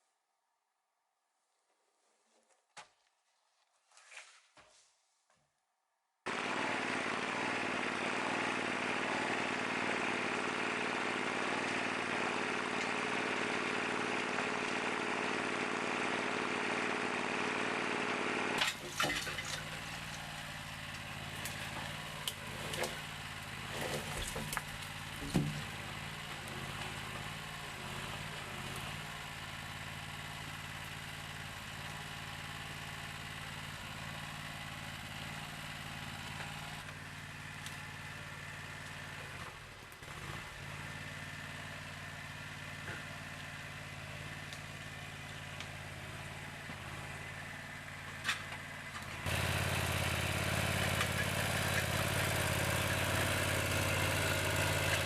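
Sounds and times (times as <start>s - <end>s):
engine idling: 6.3s - 55.0s.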